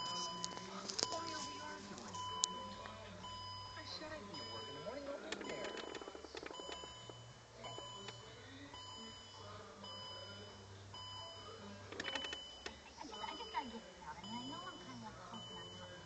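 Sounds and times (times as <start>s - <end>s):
car warning chime beeping: 0.0s - 16.0s.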